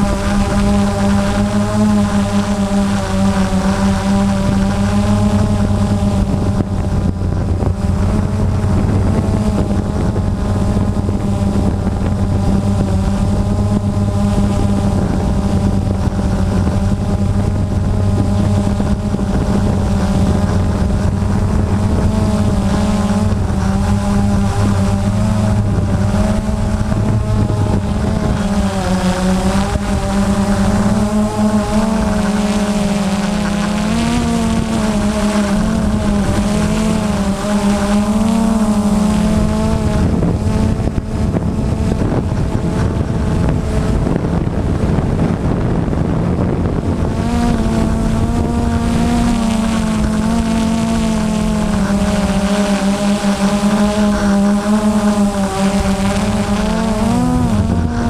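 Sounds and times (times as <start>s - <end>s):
drone propellers buzzing whine: 0.0s - 58.0s.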